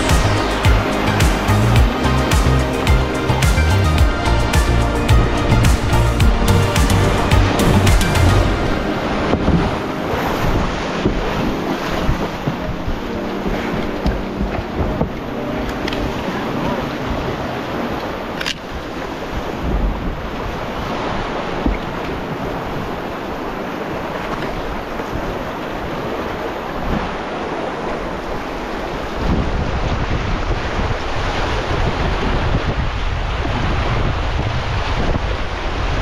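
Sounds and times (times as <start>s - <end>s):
rushing whitewater: 0.0s - 36.0s
wind buffeting microphone: 4.0s - 36.0s.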